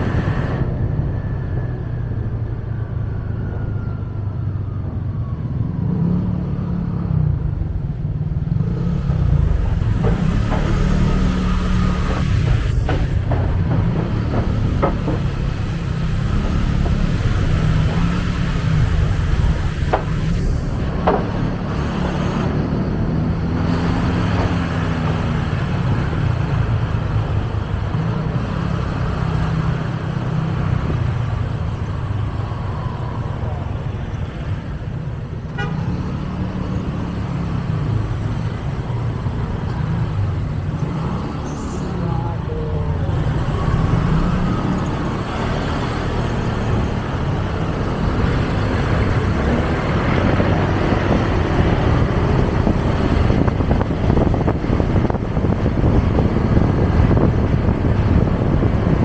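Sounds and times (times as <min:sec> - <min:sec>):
motorcycle engine and road rumble: 0:00.0 - 0:59.0
traffic: 0:00.0 - 0:59.0.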